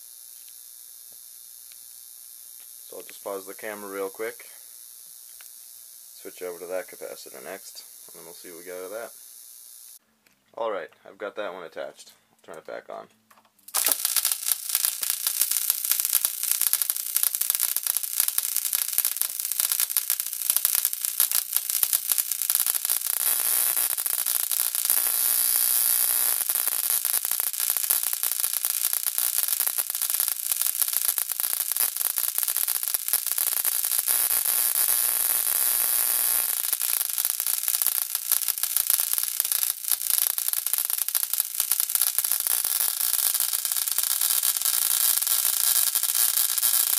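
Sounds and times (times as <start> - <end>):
electric arc crackling buzz: 0.0 - 10.0, 13.6 - 46.9.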